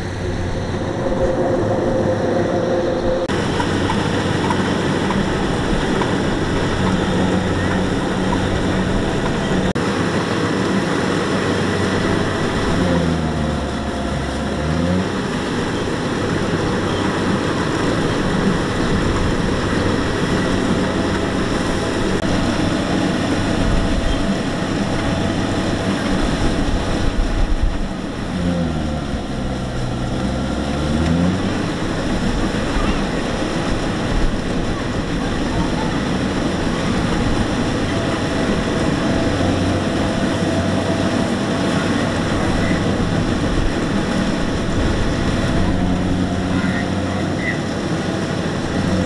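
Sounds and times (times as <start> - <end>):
combine harvester engine and threshing: 0.0 - 49.0.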